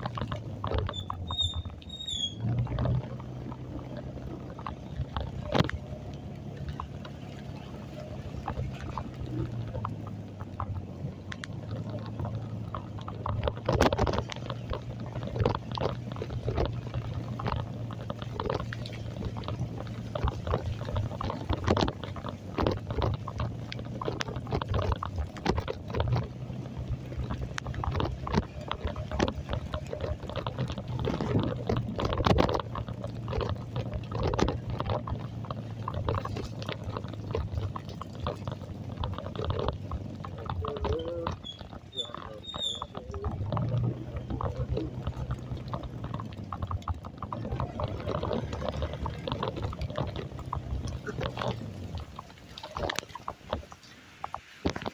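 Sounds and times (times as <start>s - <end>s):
heavy rain splashing: 0.0s - 54.9s
low engine hum: 0.0s - 54.9s.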